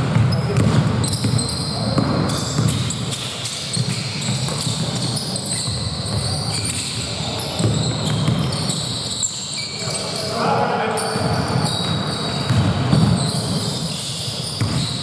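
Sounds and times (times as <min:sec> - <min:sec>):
basketball bouncing on court: 0:00.0 - 0:09.2, 0:11.1 - 0:15.0
shoe squeaks: 0:00.2 - 0:15.0.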